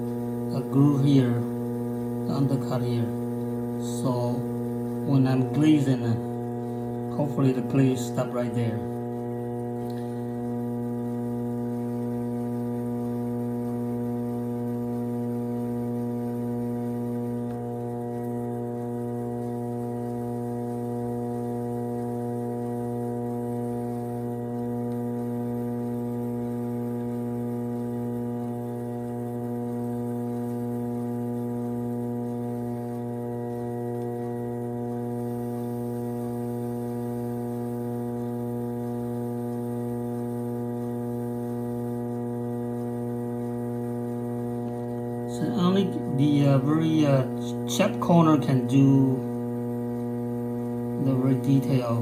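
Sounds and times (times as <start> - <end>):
potter's wheel motor humming: 0.0 - 52.0.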